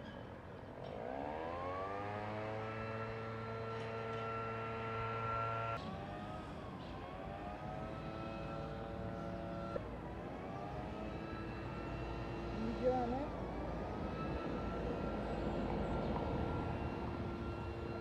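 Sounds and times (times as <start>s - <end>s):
street traffic engines: 0.0s - 18.0s.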